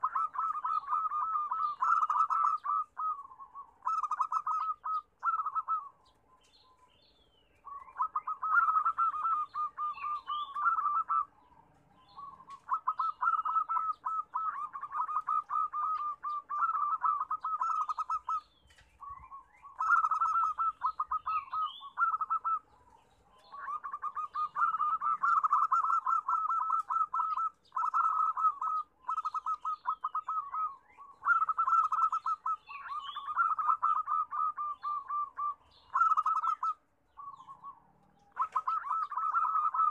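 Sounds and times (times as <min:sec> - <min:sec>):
doves cooing in rolling trills: 0:00.0 - 0:39.9.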